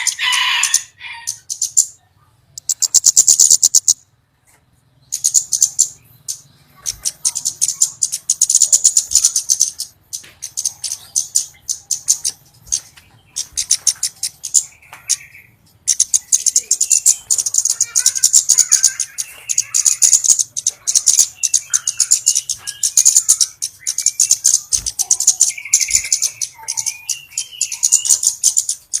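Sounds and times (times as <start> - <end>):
rapid high-pitched bird ticking: 0.0 - 2.0, 2.6 - 4.1, 5.1 - 29.0
bird chirps and buzzy trills: 0.0 - 4.1, 4.7 - 29.0.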